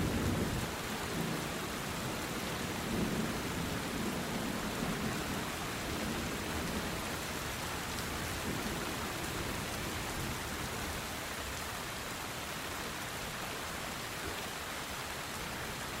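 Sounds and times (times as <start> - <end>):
rain pattering on a tin roof: 0.0 - 16.0.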